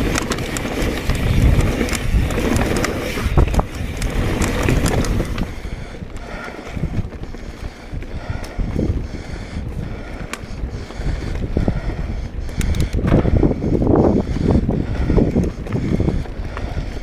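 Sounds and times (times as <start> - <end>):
bike rattling clicks: 0.0 - 17.0
bike tyres rumbling on dirt: 0.0 - 17.0
wind on microphone: 0.0 - 17.0.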